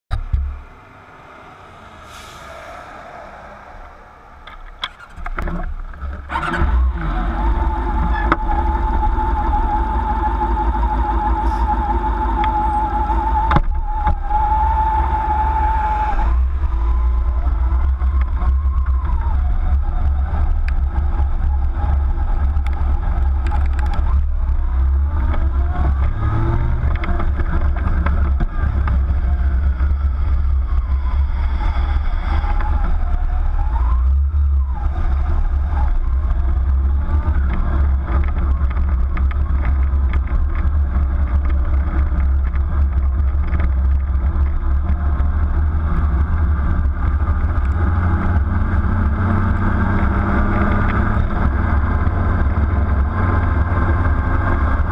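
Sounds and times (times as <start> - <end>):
motorcycle engine: 0.1 - 54.9
wind rumble on microphone: 1.5 - 54.9.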